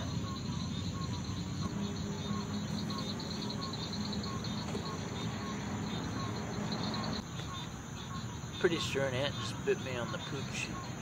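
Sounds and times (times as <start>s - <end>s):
crickets trilling: 0.0s - 11.0s
short insect chirp: 0.0s - 11.0s.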